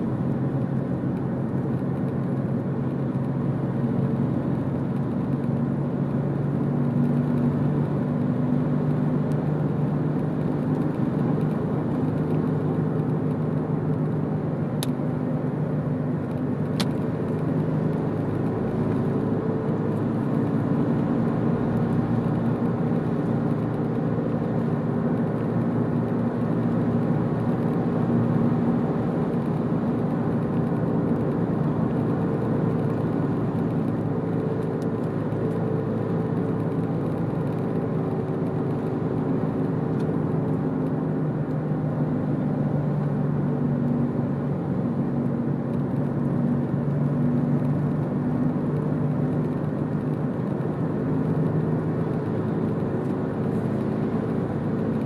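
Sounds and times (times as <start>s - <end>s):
low engine drone: 0.0s - 55.0s
tyre and road noise: 0.0s - 55.0s.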